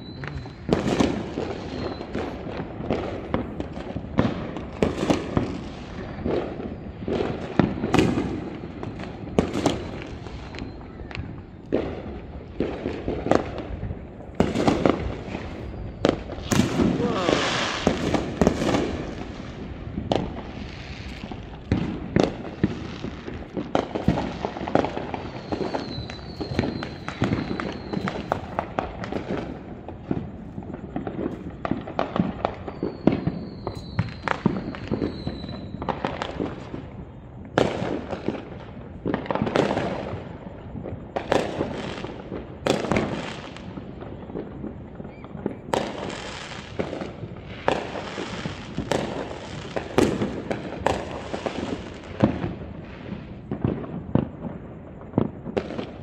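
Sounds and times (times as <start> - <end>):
distant fireworks bangs: 0.0 - 56.0.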